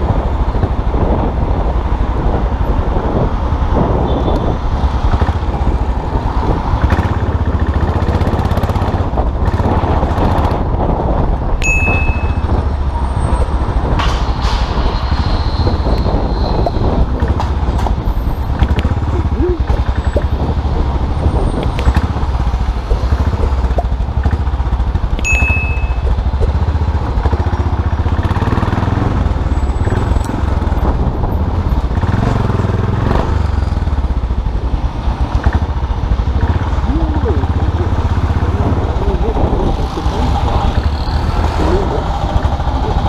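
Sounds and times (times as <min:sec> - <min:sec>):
motorcycle engine running: 0:03.5 - 0:14.0, 0:16.0 - 0:43.0.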